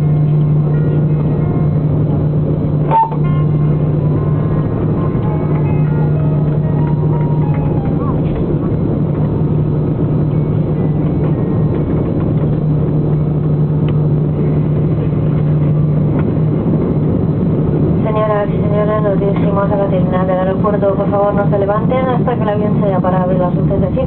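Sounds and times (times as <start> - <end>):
jet engine drone in cabin: 0.0 - 24.0.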